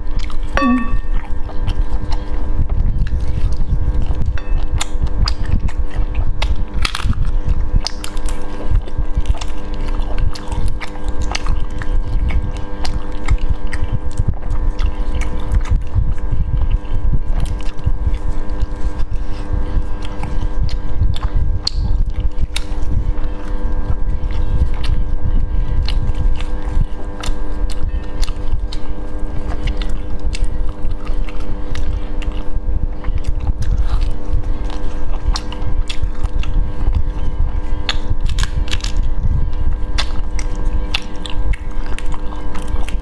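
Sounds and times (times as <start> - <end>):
chewing: 0.0 - 43.0
low rumble and hum: 0.0 - 43.0.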